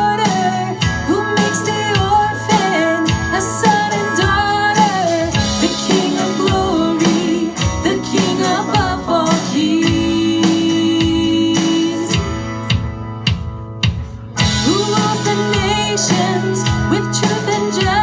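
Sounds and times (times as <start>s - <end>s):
worship band music with singing: 0.0s - 18.0s.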